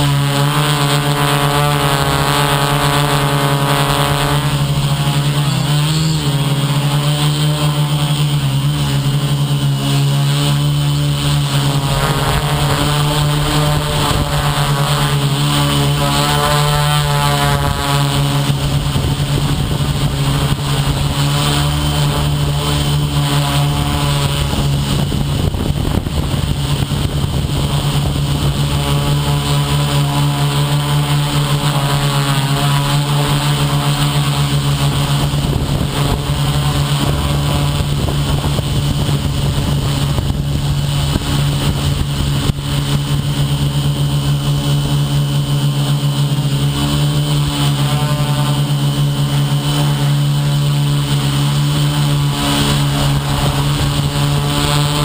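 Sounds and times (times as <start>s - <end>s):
drone motors and propellers: 0.0s - 55.0s.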